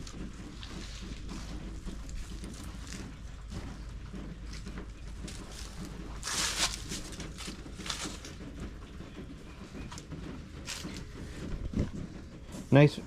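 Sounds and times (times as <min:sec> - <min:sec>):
scuffing and rustling: 0:00.0 - 0:08.8, 0:09.6 - 0:12.8.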